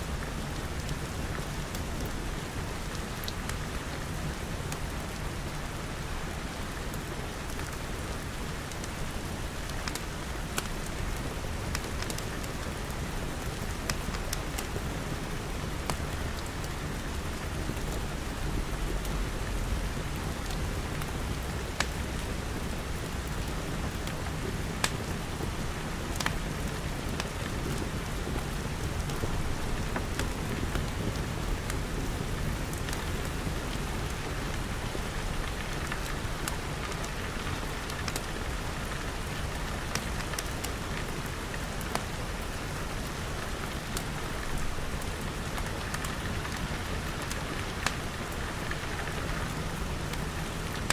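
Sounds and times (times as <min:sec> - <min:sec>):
rain pattering on glass: 0:00.2 - 0:50.9.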